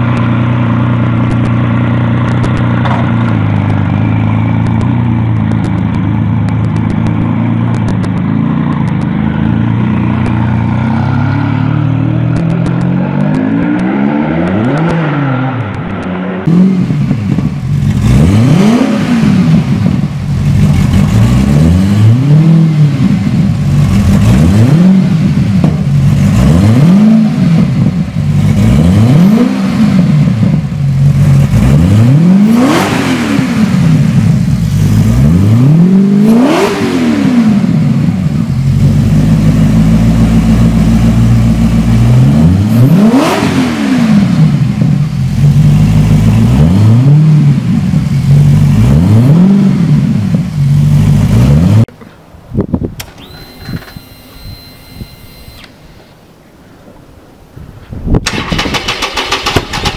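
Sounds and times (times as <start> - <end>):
engine idling and revving: 0.0 - 52.0, 58.2 - 59.9.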